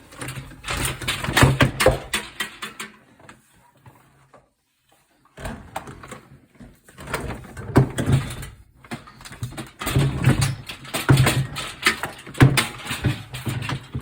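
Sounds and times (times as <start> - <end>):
objects clattering and knocking: 0.0 - 4.5, 5.3 - 14.0.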